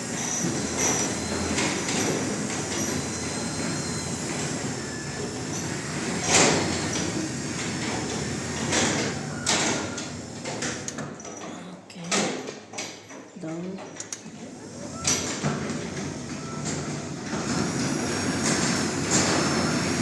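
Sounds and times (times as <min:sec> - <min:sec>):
garage door rolling rumble: 0:00.0 - 0:20.0.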